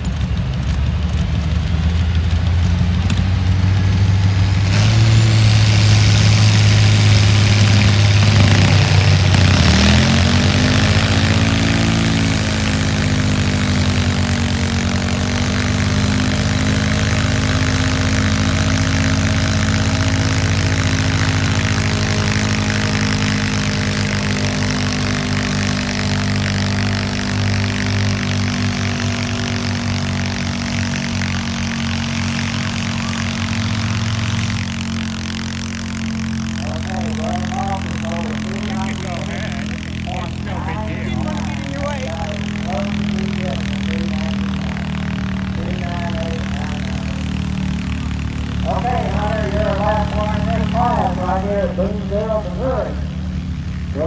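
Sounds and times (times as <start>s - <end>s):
tractor engine running hard: 0.0s - 54.0s.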